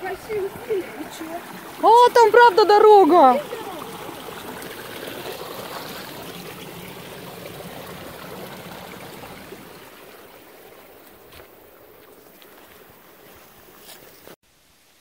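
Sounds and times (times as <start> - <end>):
stream running and trickling: 0.0 - 15.0.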